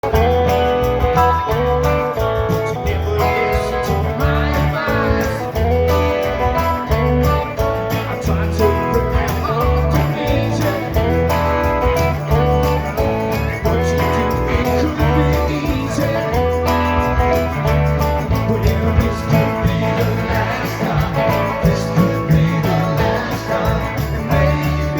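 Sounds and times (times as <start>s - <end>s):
electric guitars: 0.0s - 24.9s
live rock band playing: 0.0s - 24.9s.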